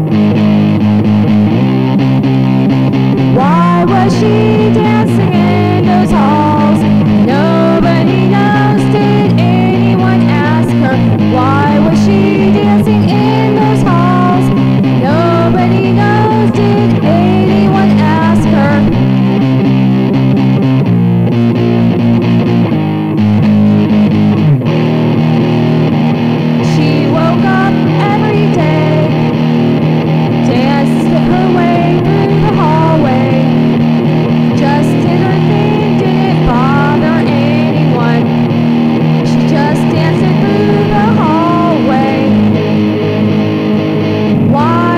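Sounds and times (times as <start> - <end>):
electric guitar rock song: 0.0 - 44.9
low bass part: 0.0 - 44.9.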